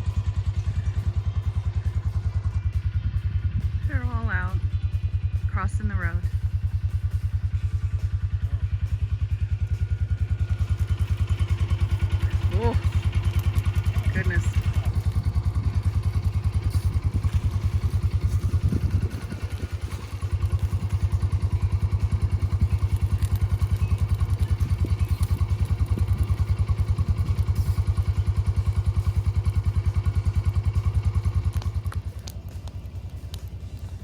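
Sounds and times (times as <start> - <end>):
utility vehicle engine idling: 0.0 - 34.0.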